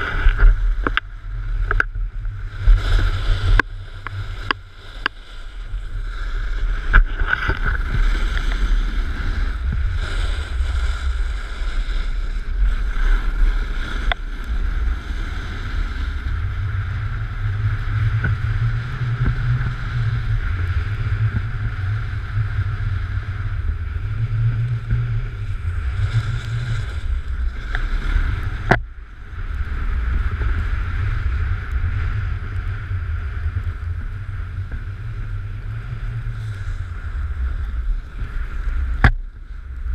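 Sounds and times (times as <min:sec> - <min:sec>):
snowboard scraping over snow: 0:00.0 - 0:39.9
wind buffeting microphone: 0:00.0 - 0:39.9.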